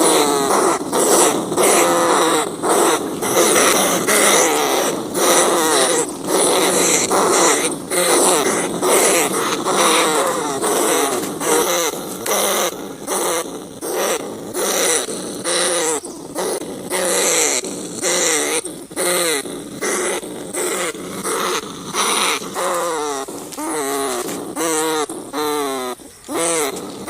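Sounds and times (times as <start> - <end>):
rats squealing: 0.0 - 27.0.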